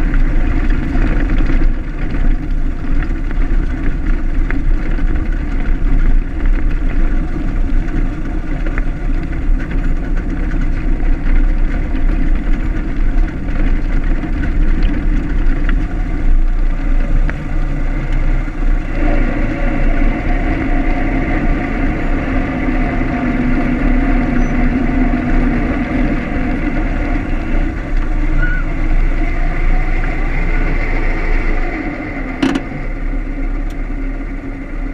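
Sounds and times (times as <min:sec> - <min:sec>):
old car engine running: 0:00.0 - 0:34.9.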